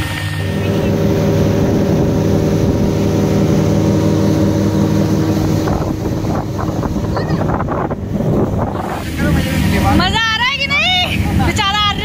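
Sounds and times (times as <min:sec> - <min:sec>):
outboard motor drone: 0:00.0 - 0:12.0
rush of water and air: 0:00.0 - 0:12.0.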